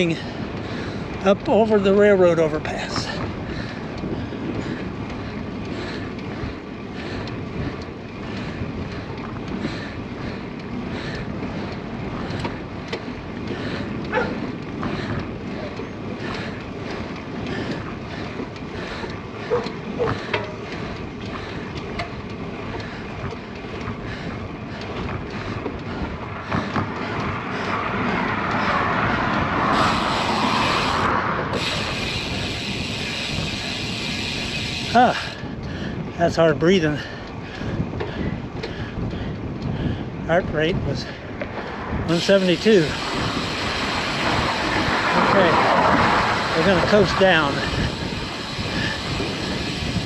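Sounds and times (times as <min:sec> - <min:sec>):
cyclist breathing hard: 0:00.0 - 0:01.5, 0:02.8 - 0:50.0
wind noise on microphone: 0:00.0 - 0:50.0.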